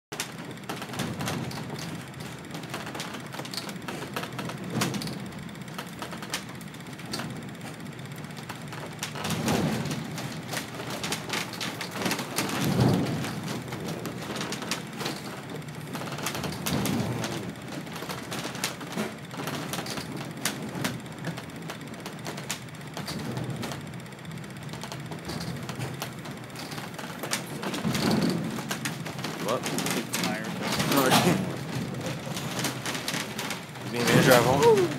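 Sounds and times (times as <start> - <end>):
crackling and clatter: 0.1 - 34.9.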